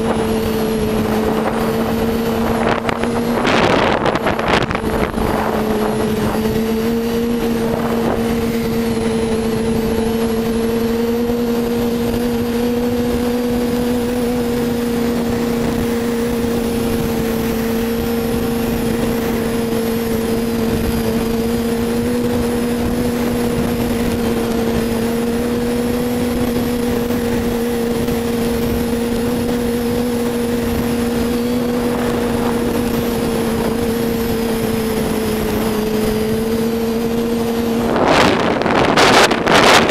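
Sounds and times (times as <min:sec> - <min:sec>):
snowmobile engine at steady revs: 0:00.0 - 0:39.9.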